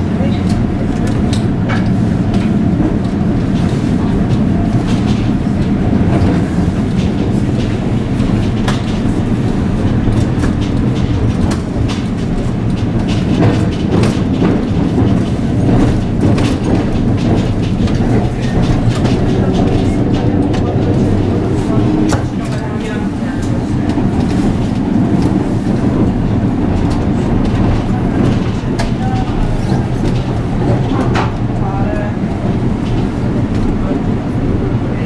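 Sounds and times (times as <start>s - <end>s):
tram wheels rumbling: 0.0s - 35.0s
wheels clicking over rail joints: 0.0s - 35.0s.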